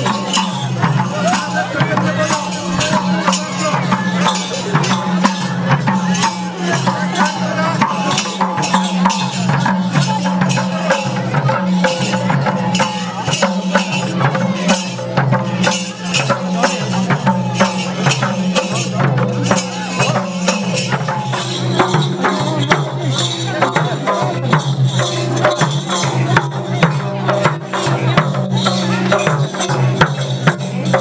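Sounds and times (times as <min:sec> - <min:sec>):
hand drums beaten in dance rhythm: 0:00.0 - 0:31.0.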